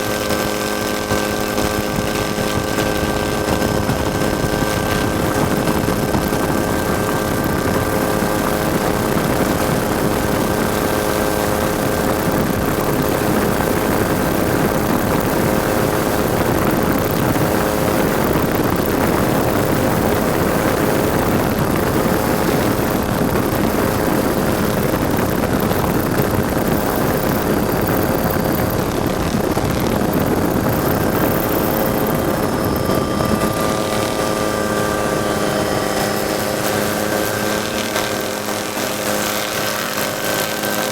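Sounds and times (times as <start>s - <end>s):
truck engine running at speed: 0.0s - 40.9s
whining tones: 0.0s - 40.9s.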